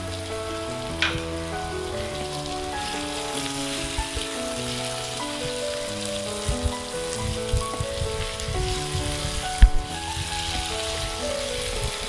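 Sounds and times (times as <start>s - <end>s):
background music with held notes: 0.0s - 12.0s
chicken sizzling in oil: 0.0s - 12.0s
low knocks: 0.0s - 12.0s
wooden spatula stirring: 0.7s - 12.0s.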